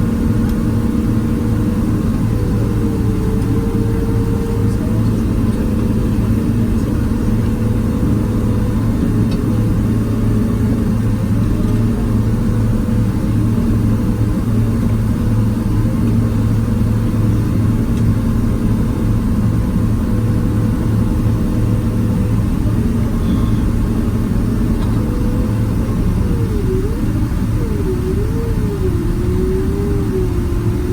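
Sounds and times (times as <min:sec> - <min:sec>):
jet engine cabin drone: 0:00.0 - 0:30.9.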